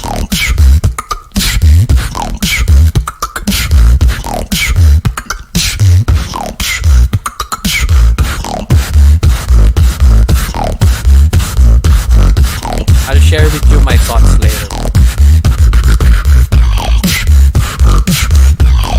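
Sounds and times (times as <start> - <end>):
human beatboxing: 0.0 - 18.9.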